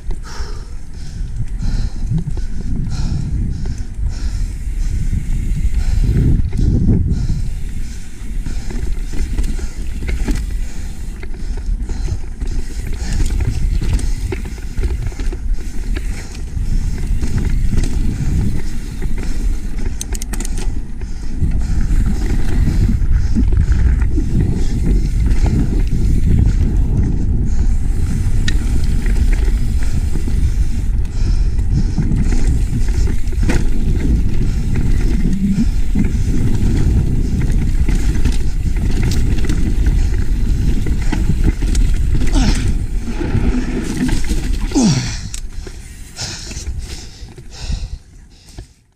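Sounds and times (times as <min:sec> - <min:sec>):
bike tyre rumble: 0:00.0 - 0:48.9
wind rush on microphone: 0:00.0 - 0:48.9.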